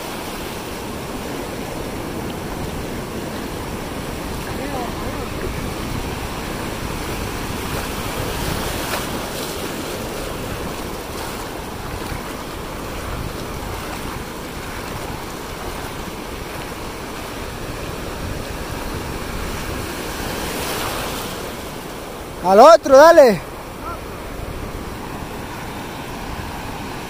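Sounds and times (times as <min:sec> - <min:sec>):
wind rumbling on microphone: 0:00.0 - 0:22.4, 0:23.4 - 0:27.0
sea surf breaking: 0:00.0 - 0:27.0.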